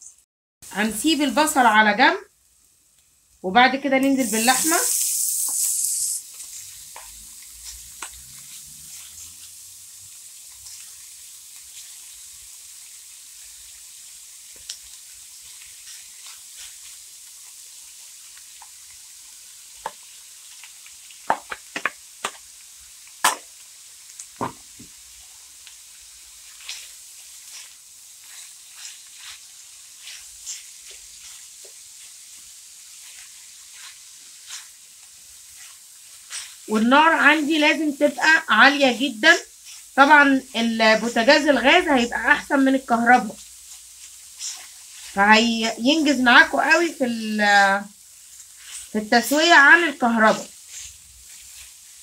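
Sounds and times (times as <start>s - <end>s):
meat sizzling in a wok: 0.0s - 52.0s.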